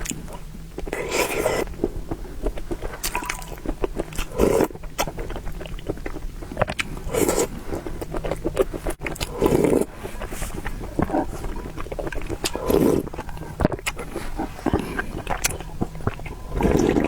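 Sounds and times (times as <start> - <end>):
wet chewing and mouth clicks: 0.0 - 17.0.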